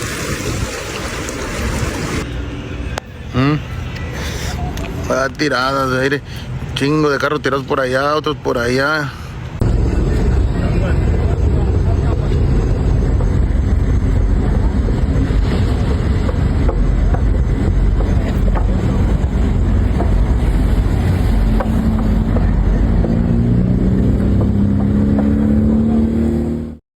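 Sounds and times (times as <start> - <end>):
vehicle rumbling: 0.0 - 26.8.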